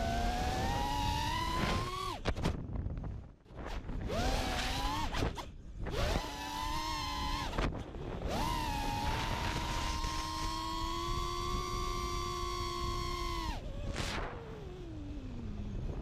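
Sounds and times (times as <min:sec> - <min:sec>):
drone motors whining: 0:00.0 - 0:02.4, 0:03.7 - 0:16.0.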